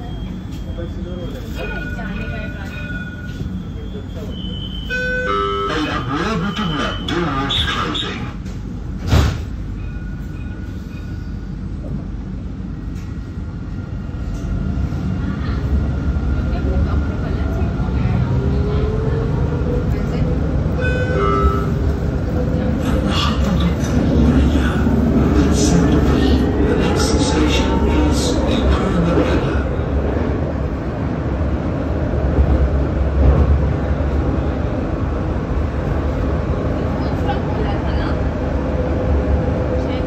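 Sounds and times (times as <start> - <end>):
tram low rumble: 0.0 - 40.0.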